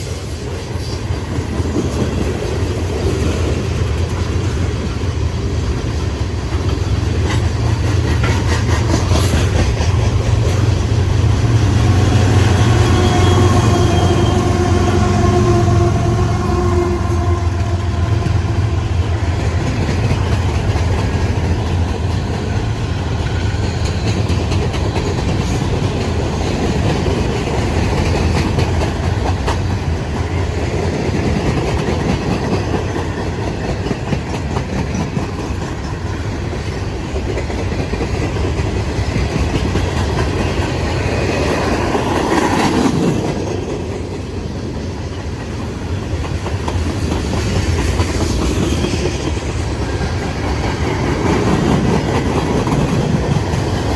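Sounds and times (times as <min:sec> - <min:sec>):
wheels clicking over rail joints: 0:00.0 - 0:15.3, 0:17.2 - 0:53.9
freight train cars rolling past: 0:00.0 - 0:53.9.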